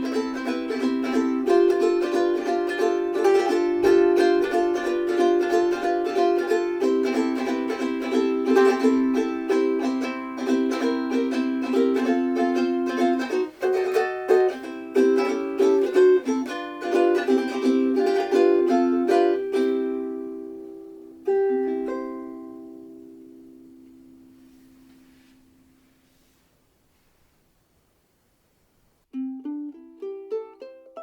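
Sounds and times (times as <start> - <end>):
ukulele plucked notes and chords: 0.0 - 25.8, 29.1 - 31.0.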